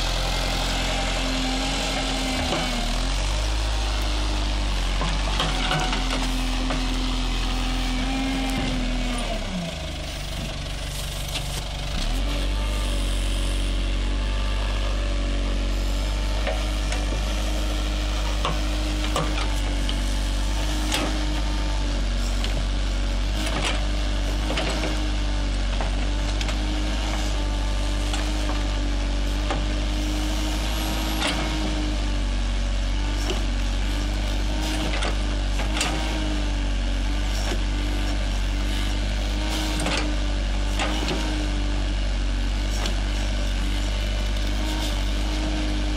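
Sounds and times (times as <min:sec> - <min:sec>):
diesel engine working under load: 0:00.0 - 0:45.9.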